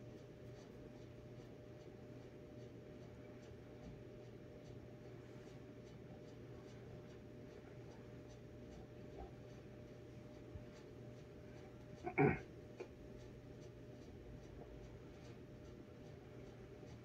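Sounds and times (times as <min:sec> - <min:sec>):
faint steady hum: 0:00.0 - 0:17.0
soft ticking: 0:00.1 - 0:17.0.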